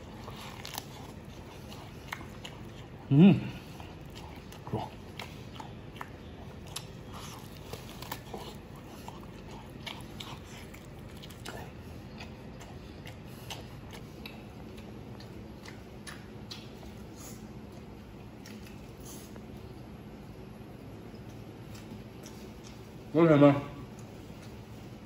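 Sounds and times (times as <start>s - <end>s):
man chewing with mouth full: 0.0s - 23.1s, 23.8s - 25.0s.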